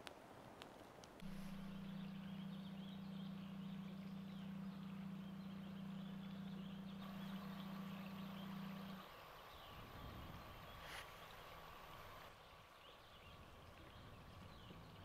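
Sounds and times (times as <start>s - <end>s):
faint bird chirps: 1.2s - 15.0s
steady low hum: 1.2s - 15.0s.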